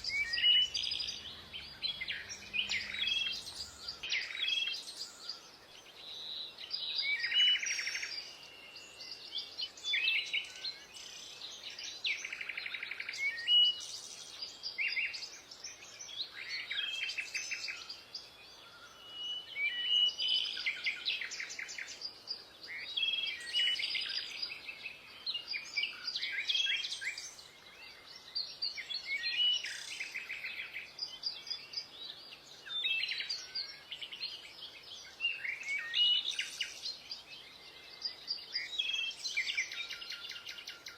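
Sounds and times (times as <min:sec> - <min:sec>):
birds chirping and singing: 0:00.0 - 0:40.9.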